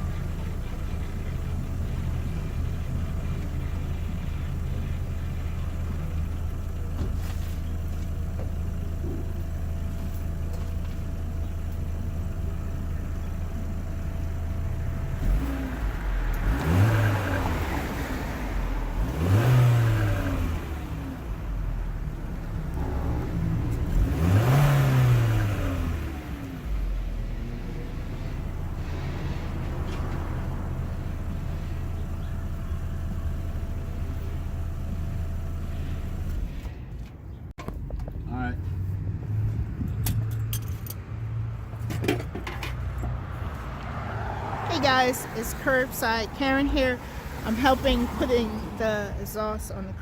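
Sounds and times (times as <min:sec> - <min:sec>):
car engine revving: 0:00.0 - 0:07.9, 0:11.4 - 0:36.9, 0:42.8 - 0:50.0
car engine idling: 0:00.0 - 0:50.0.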